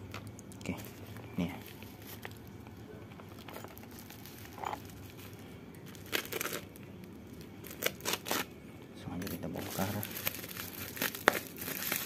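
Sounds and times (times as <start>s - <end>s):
plastic wrapping crinkling: 0.1s - 8.5s, 9.2s - 12.0s.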